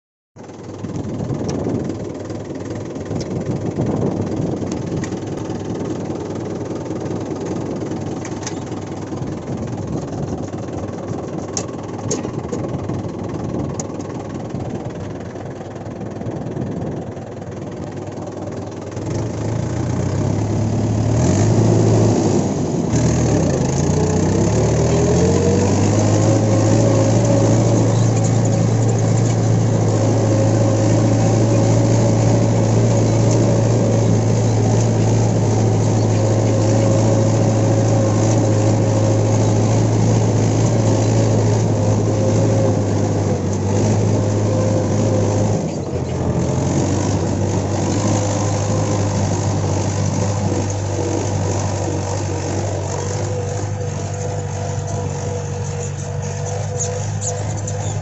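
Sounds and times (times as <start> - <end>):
tractor diesel engine running: 0.4 - 58.0.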